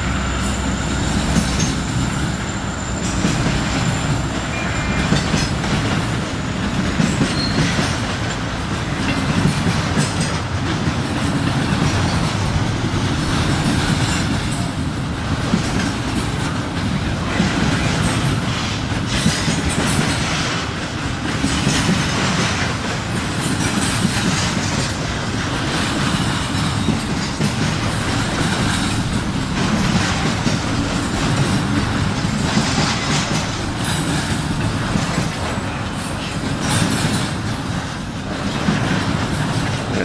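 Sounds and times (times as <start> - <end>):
freight train cars rolling past: 0.0 - 40.0
wheels clicking over rail joints: 0.0 - 40.0.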